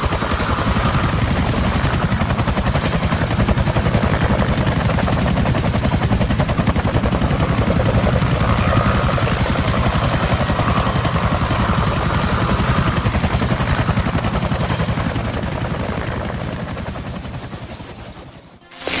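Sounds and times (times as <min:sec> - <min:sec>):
helicopter rotor chopping: 0:00.0 - 0:19.0.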